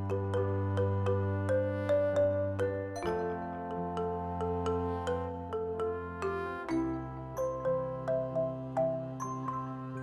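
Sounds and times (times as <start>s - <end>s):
bright melody of struck notes: 0.0s - 10.0s.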